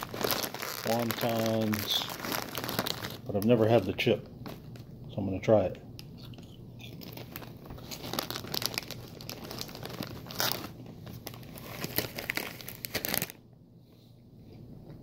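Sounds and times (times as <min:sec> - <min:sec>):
chip bag crinkling: 0:00.0 - 0:04.9, 0:06.2 - 0:13.4.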